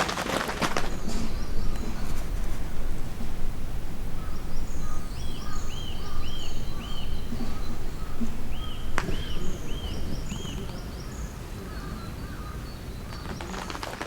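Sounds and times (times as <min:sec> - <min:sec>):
low background noise: 0:00.0 - 0:14.0
songbirds calling: 0:00.0 - 0:14.0.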